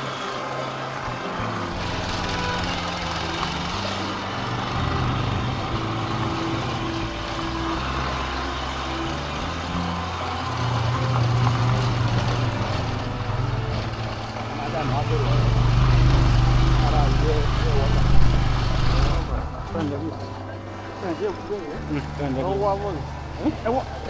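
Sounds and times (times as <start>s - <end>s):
small motorcycle engine running: 0.0s - 24.0s.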